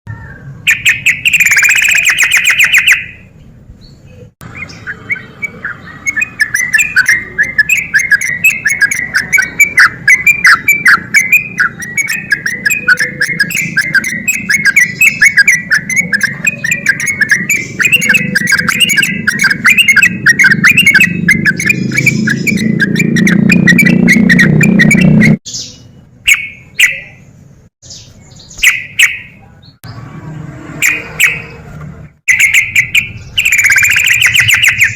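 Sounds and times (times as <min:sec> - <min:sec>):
bird calls: 0:00.1 - 0:30.1, 0:30.8 - 0:31.7, 0:32.3 - 0:34.9
bird singing fast chatter: 0:00.6 - 0:03.3, 0:03.9 - 0:30.0, 0:30.8 - 0:31.6, 0:32.2 - 0:34.9.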